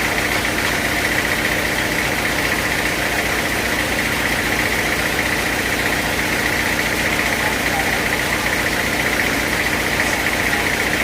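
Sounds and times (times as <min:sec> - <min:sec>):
sawmill engine idling: 0:00.0 - 0:11.0.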